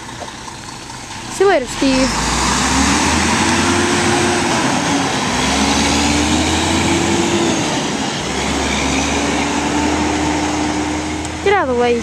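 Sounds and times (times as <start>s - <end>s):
truck diesel engine shifting gears: 0.0s - 12.0s.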